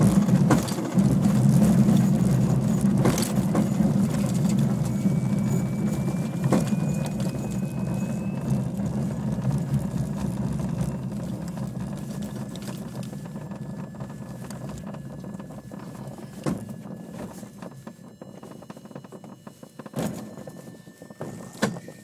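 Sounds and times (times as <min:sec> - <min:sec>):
glider wheel rolling over grass: 0:00.0 - 0:22.0.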